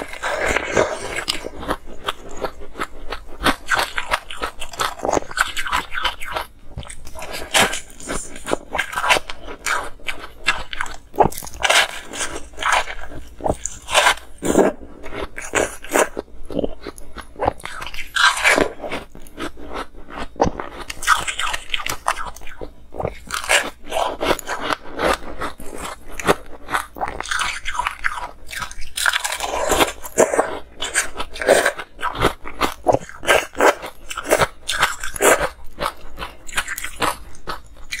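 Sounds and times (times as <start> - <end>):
crunching of chewed ice: 0.0 - 38.0.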